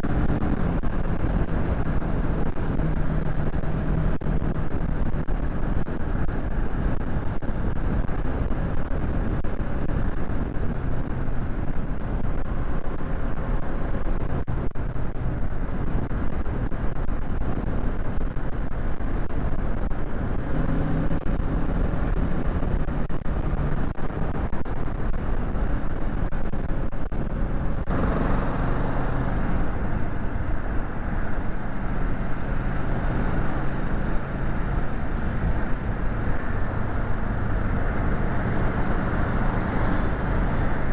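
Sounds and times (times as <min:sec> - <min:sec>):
wind and road rush: 0:00.0 - 0:40.9.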